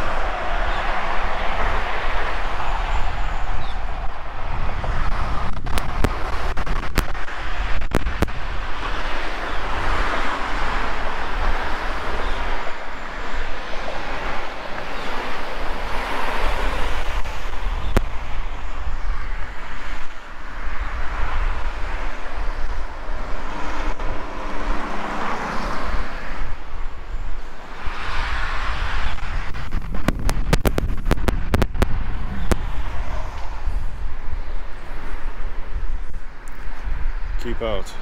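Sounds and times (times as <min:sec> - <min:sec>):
road traffic passing: 0:00.0 - 0:38.0
wind rumbling on microphone: 0:00.0 - 0:38.0.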